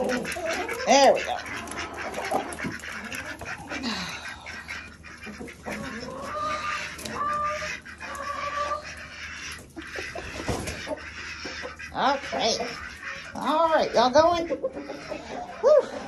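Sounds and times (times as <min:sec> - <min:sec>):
hens ducks and goose calling: 0:00.0 - 0:16.0.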